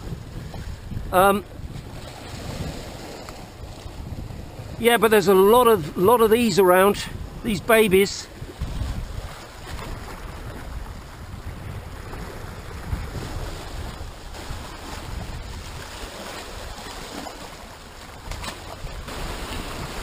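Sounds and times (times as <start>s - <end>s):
waves breaking over rocks: 0.0s - 20.0s
wind buffeting microphone: 0.0s - 20.0s.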